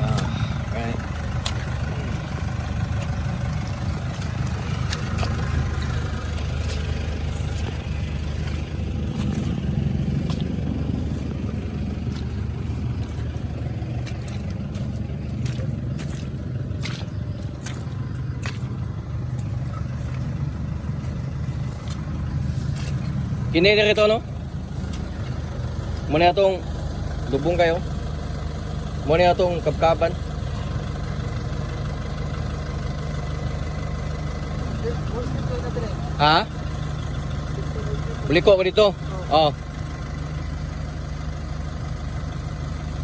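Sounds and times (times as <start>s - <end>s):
truck engine idling: 0.0s - 43.0s.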